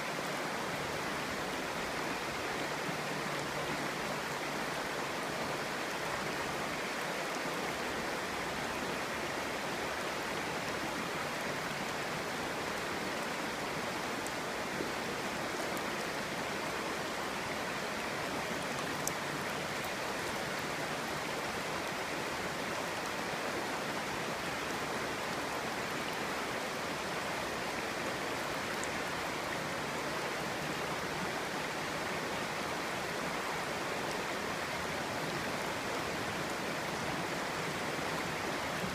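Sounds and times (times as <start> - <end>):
stream burbling over stones: 0.0 - 38.9.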